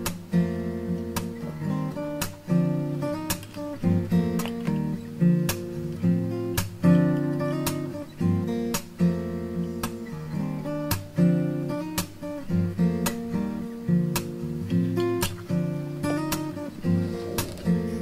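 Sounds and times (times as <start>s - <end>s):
strummed acoustic guitar music: 0.0s - 18.0s.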